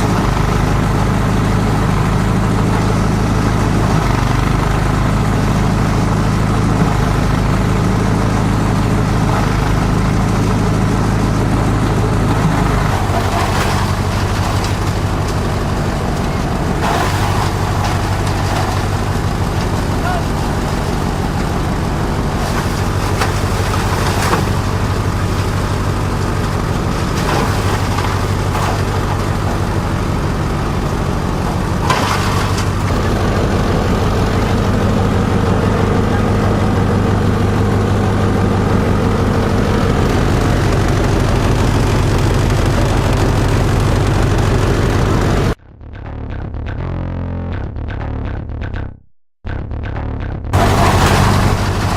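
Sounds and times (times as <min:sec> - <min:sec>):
machine motor drone: 0:00.0 - 0:45.6, 0:50.5 - 0:51.9.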